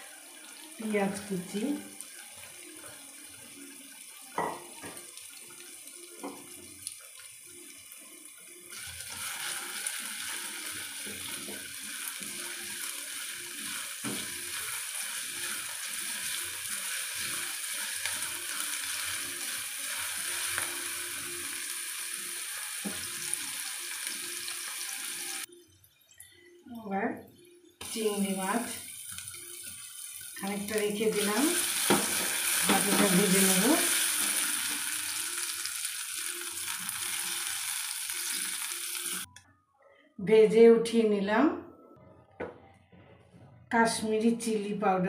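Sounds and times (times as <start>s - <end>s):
vegetables sizzling in oil: 0.0s - 25.5s, 27.8s - 39.3s.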